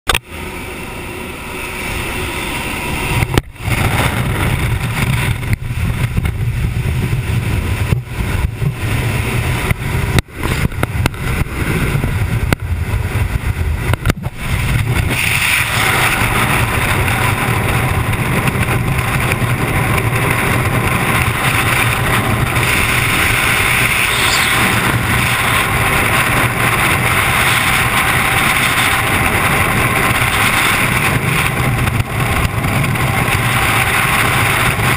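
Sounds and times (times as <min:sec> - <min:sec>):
loud rush of freefall wind: 0:00.1 - 0:34.9
plane engine and propeller wash: 0:00.1 - 0:34.9
wind buffeting microphone: 0:00.4 - 0:34.9.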